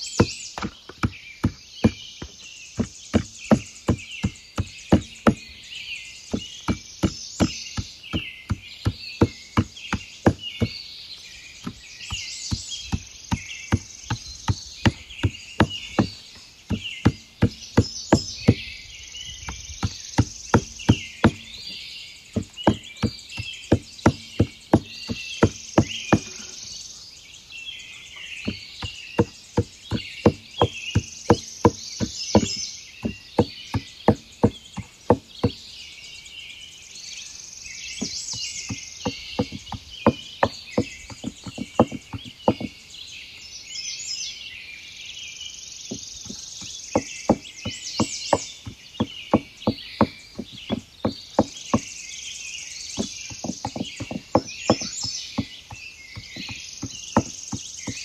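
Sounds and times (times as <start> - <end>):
insects chirping: 0.0 - 43.5, 45.5 - 58.0
birdsong: 0.0 - 58.0
chopping on wooden board: 0.2 - 5.6, 6.3 - 10.8, 11.6 - 18.7, 19.4 - 21.8, 22.4 - 26.6, 28.4 - 35.6, 38.0 - 42.8, 45.9 - 51.9, 53.0 - 58.0.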